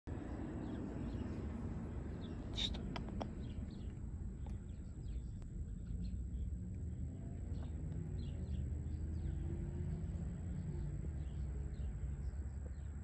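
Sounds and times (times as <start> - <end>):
steady low rumble: 0.1 - 13.0
faint bird chirps: 0.6 - 13.0.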